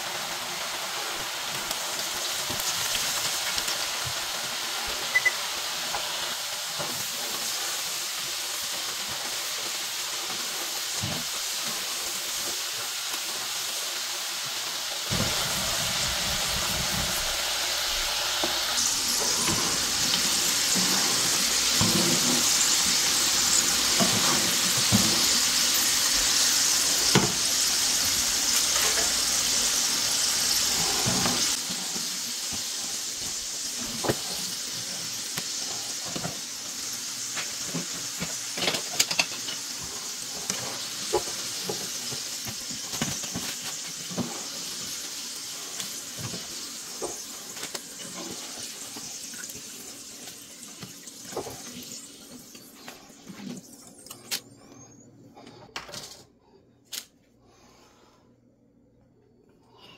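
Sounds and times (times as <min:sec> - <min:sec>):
fries sizzling in hot oil: 0:00.0 - 0:54.8.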